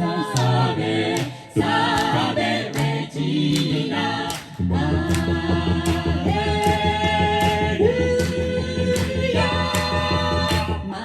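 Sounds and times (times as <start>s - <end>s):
a cappella group singing chords: 0.0s - 11.0s
low sung bass line: 0.5s - 11.0s.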